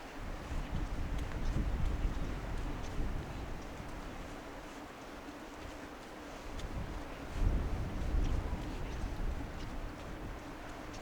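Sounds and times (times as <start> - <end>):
wind buffeting microphone: 0.0 - 4.5, 5.6 - 11.0.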